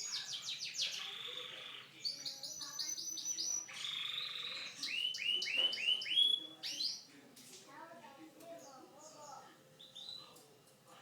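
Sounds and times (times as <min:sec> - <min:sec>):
canary singing: 0:00.0 - 0:07.1, 0:08.5 - 0:10.4.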